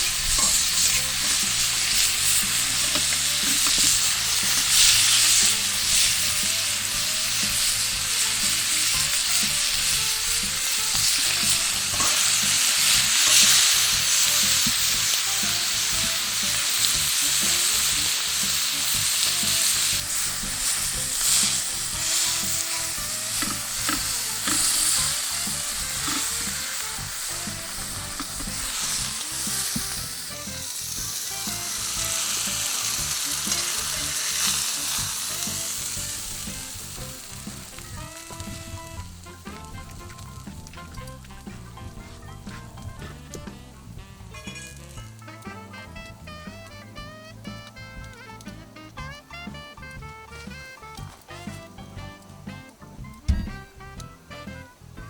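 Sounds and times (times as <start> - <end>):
food sizzling in a frying pan: 0.0 - 52.6
sharp pops of frying food: 0.0 - 54.5.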